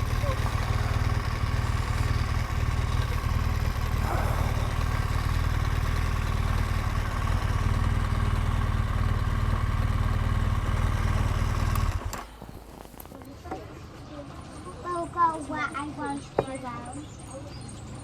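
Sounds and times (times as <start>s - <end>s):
motorcycle engine running steadily: 0.0s - 14.5s.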